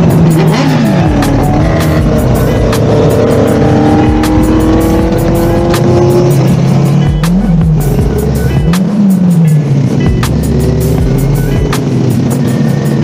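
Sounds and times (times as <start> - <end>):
background music: 0.0 - 13.0
motorcycle engine revving: 0.0 - 13.0.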